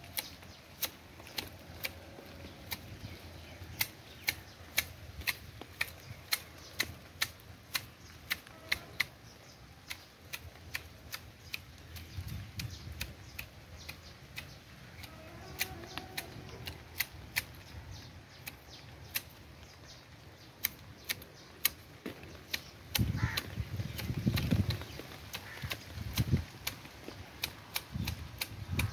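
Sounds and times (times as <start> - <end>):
hedge shears snipping: 0.0 - 19.8, 20.5 - 28.9.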